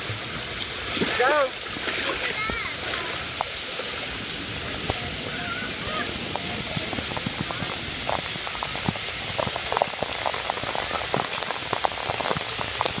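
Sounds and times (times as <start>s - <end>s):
rushing water: 0.0s - 13.0s
small splashes and drips: 0.0s - 13.0s.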